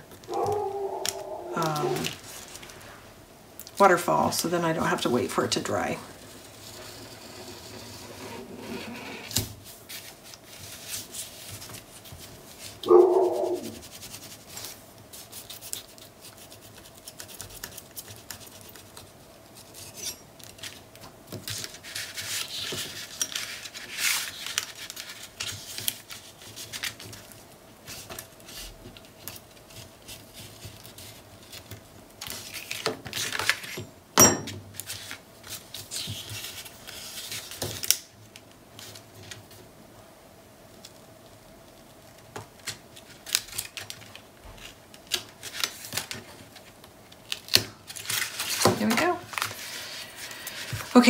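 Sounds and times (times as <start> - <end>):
paper rustling and scraping: 1.5 - 3.2, 4.8 - 33.8, 34.8 - 38.0, 42.6 - 51.0.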